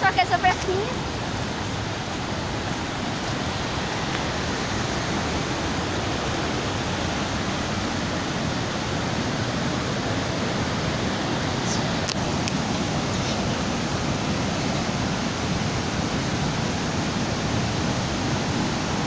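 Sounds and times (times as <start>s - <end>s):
small waterfall rushing: 0.0s - 19.0s.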